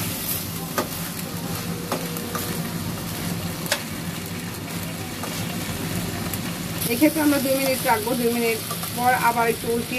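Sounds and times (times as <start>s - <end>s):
fish and onion sizzling in pan: 0.0s - 9.9s.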